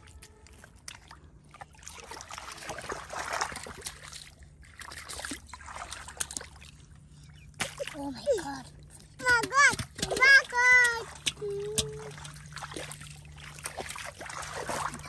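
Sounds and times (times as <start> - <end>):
muddy water splashing: 0.0 - 15.0.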